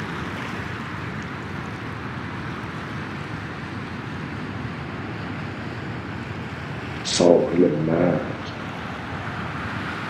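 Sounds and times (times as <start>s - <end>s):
steady sea-like rushing noise: 0.0s - 10.0s.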